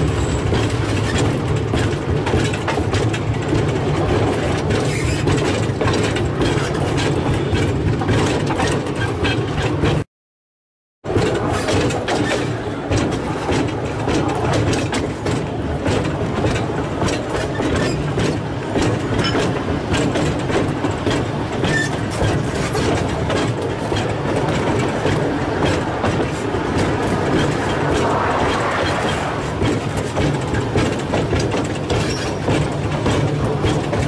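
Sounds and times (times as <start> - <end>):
train rumbling: 0.0 - 10.0, 11.1 - 34.0
wheels clicking over rails: 0.0 - 10.0, 11.1 - 34.0.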